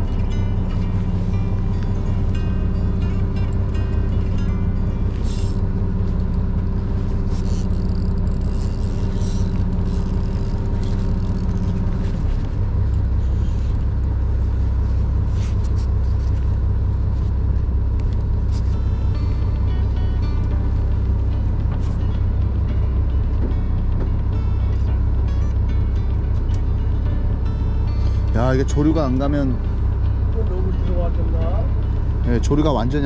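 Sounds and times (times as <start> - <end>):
boat engine rumbling: 0.0 - 33.0.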